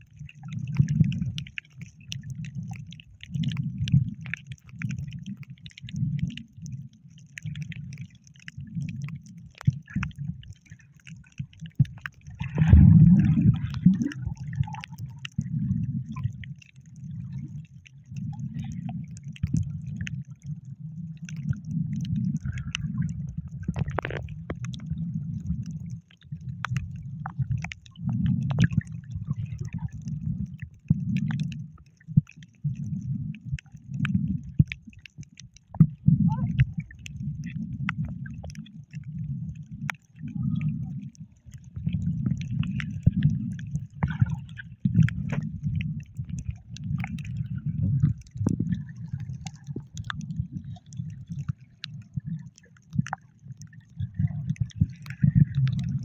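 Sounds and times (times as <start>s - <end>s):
faint clicks and crackles: 0.0s - 56.0s
underwater water surges: 0.0s - 56.0s.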